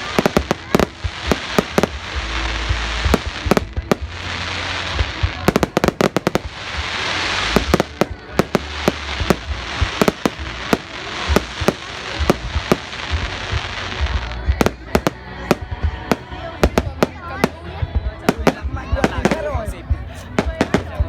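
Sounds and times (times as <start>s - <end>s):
crackling hiss: 0.0s - 19.6s
fireworks bangs: 0.0s - 21.0s.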